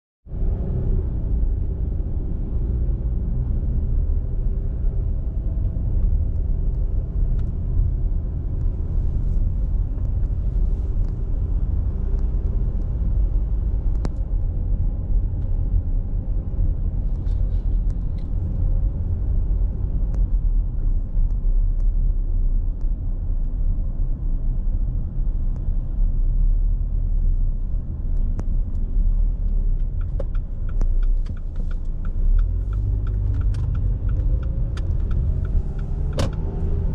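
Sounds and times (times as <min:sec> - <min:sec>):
car engine rumble: 0:00.3 - 0:36.9.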